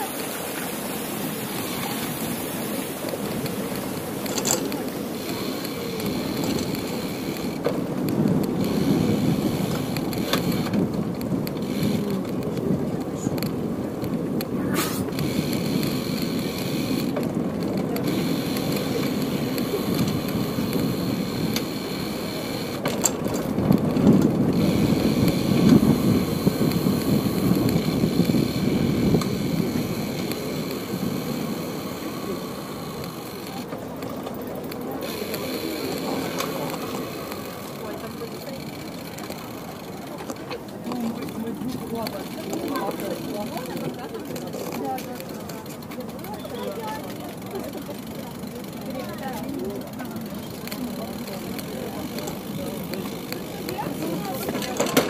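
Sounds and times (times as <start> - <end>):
bicycle tyres rumbling on paving: 0.0 - 55.0.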